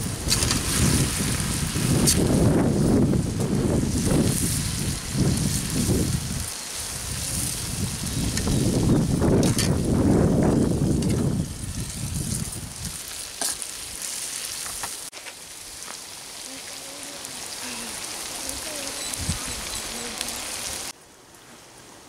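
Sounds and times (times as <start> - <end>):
curry sizzling and bubbling in pan: 0.0 - 21.0.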